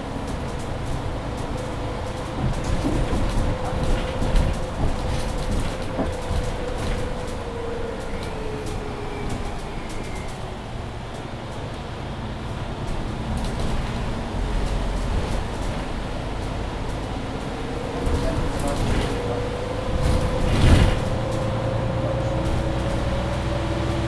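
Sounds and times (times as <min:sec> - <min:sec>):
bus running rumble: 0:00.0 - 0:24.0
interior rattles and clicks: 0:00.0 - 0:24.0.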